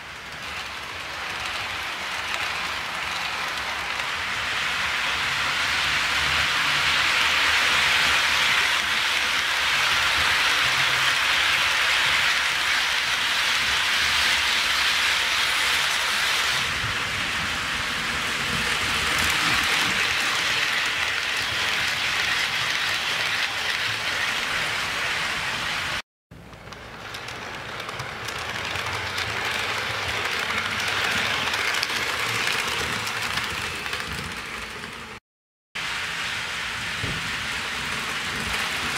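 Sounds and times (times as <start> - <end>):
model train wheels on rails: 0.0 - 35.2, 35.8 - 38.9.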